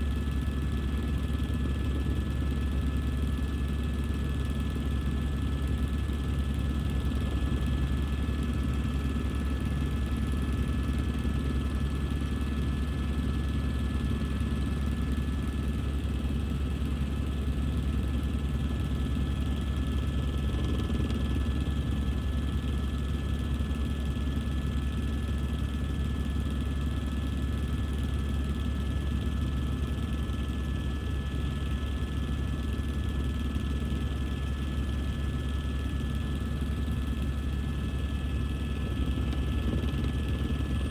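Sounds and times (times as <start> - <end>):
helicopter in flight: 0.0 - 40.9.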